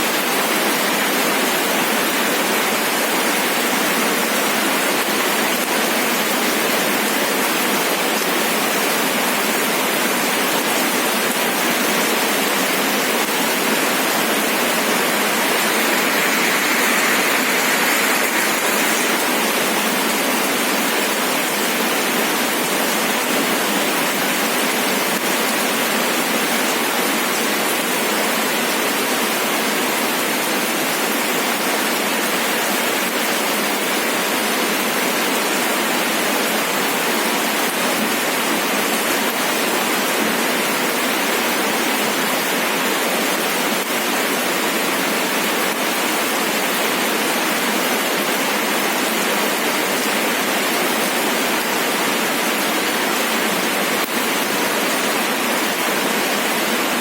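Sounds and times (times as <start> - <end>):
steady rain hiss: 0.1 - 57.0.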